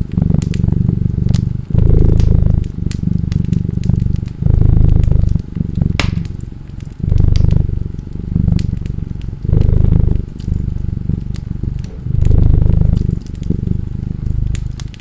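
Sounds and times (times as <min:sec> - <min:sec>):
cat purring: 0:00.0 - 0:15.0
wood fire crackling and popping: 0:00.0 - 0:15.0.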